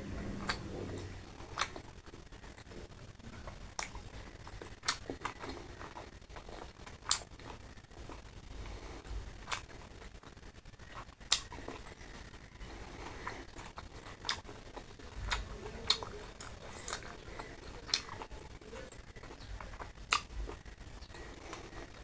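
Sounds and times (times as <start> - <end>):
quiet chewing: 0.0 - 22.0.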